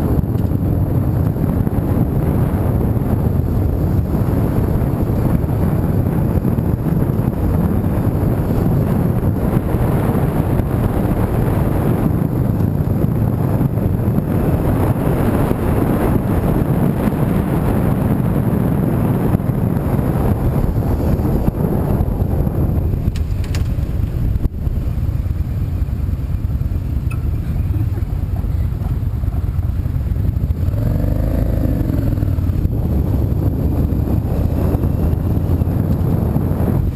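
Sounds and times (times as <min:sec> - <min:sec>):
car road and engine noise: 0:00.0 - 0:36.9.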